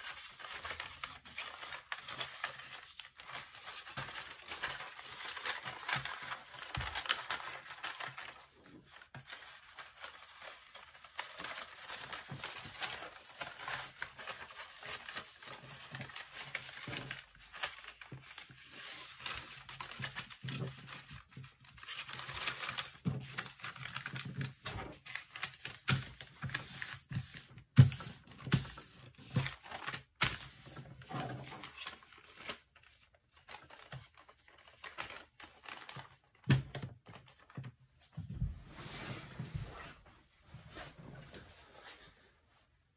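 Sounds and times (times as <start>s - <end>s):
paper rustling and crinkling: 0.0s - 42.3s.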